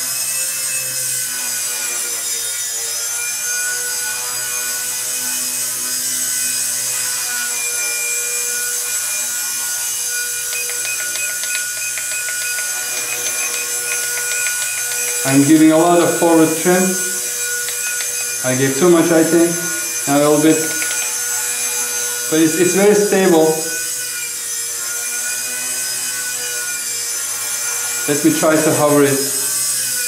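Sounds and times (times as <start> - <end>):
rc helicopter rotor whine: 0.0 - 30.0.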